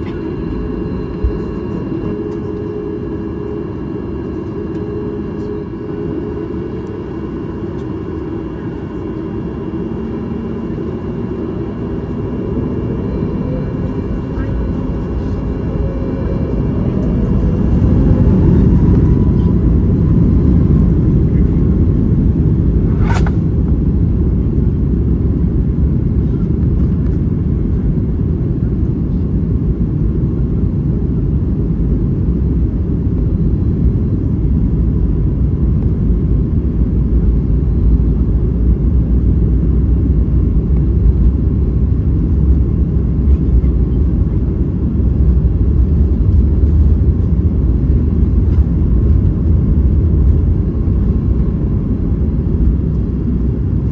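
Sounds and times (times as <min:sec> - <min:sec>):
jet engine whine and rumble: 0:00.0 - 0:53.9.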